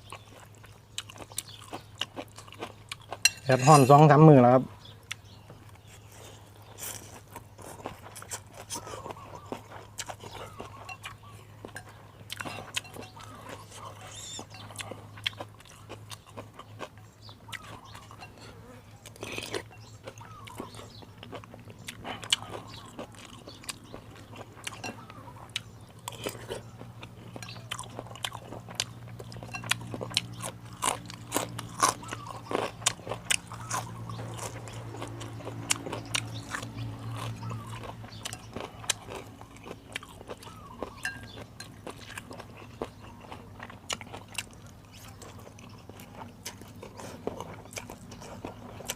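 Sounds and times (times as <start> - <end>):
person chewing food: 0.0 - 4.2, 4.8 - 48.9.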